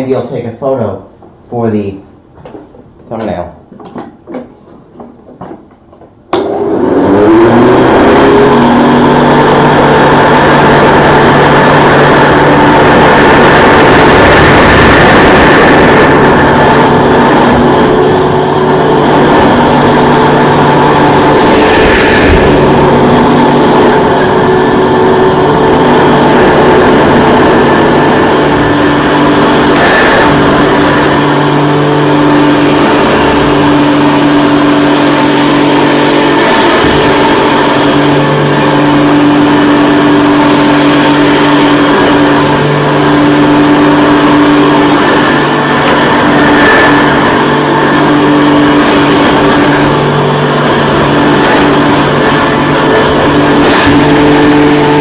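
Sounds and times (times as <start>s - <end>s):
vacuum cleaner running: 6.3s - 55.0s.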